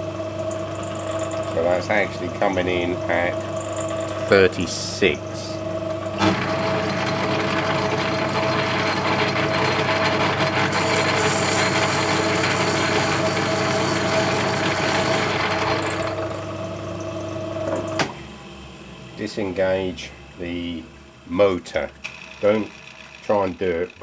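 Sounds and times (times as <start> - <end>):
lathe whine and gear noise: 0.0 - 24.0.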